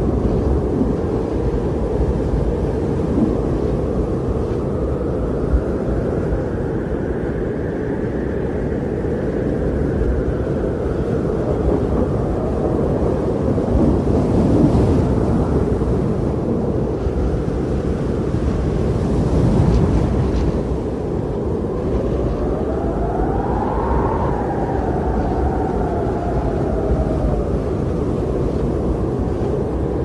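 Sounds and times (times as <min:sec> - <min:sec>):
strong blizzard wind roaring: 0:00.0 - 0:30.0.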